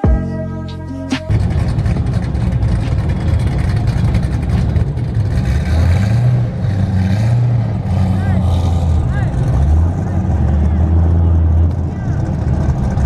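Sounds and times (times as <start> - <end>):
vehicle engine and exhaust rumbling: 0.0 - 13.0.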